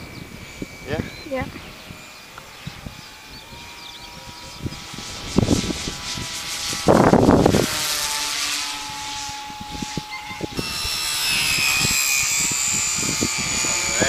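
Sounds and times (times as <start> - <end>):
electric motor whine: 0.0 - 14.0
wind buffeting microphone: 0.0 - 14.0.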